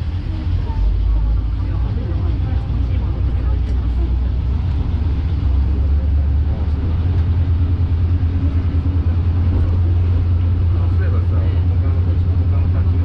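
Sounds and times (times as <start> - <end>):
low engine drone: 0.0 - 13.0
wheels rumbling on track: 0.0 - 13.0.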